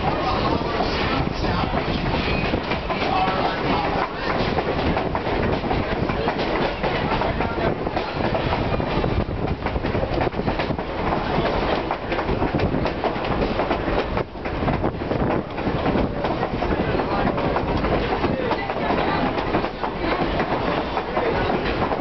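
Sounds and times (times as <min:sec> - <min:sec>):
train wheels clattering on rails: 0:00.0 - 0:22.0.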